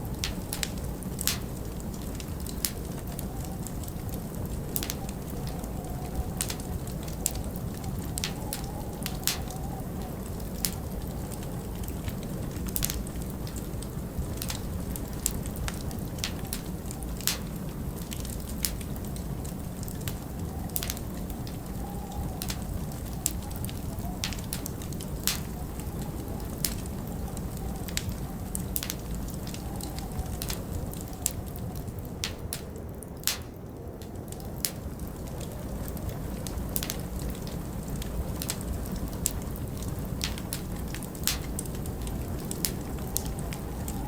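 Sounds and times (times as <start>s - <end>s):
faint wavering wind whistle: 0.0s - 44.0s
wood fire crackling and popping: 0.0s - 44.0s.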